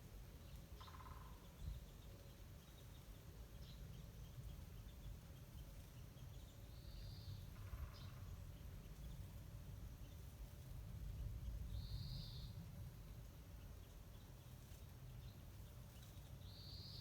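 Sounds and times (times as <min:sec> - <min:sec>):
low outdoor background: 0:00.0 - 0:17.0
wild birds calling faintly: 0:00.1 - 0:17.0.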